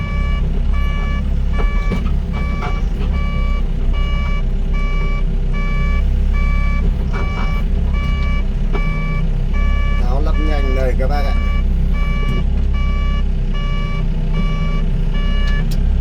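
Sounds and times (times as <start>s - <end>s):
electronic warning beeper: 0.0s - 15.6s
diesel engine running: 0.0s - 16.0s.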